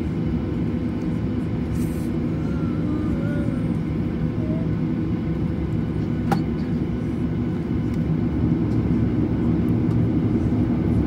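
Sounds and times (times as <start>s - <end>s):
jet engines humming in cabin: 0.0s - 11.0s.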